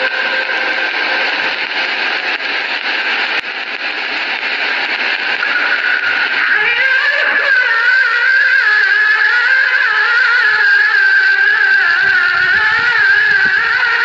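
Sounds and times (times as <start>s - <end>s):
recording hiss: 0.0s - 14.0s.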